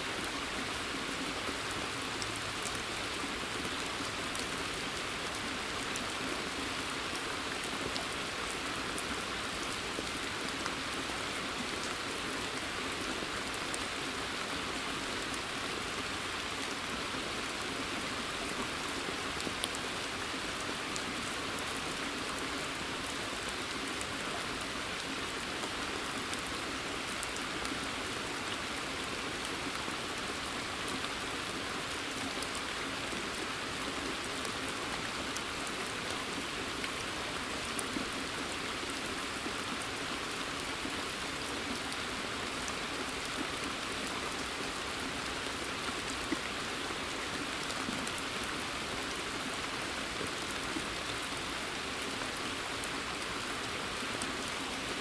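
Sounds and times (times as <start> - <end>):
rain pattering on pond and leaves: 0.0 - 55.0.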